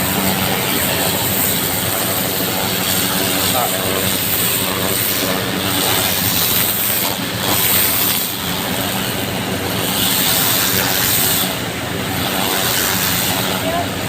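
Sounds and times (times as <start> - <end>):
hose jet spraying water: 0.0 - 14.0
water pump engine running: 0.0 - 14.0.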